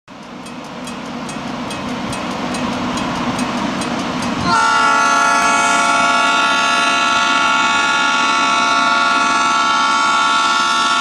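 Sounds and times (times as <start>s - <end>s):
train running on rails: 0.1s - 11.0s.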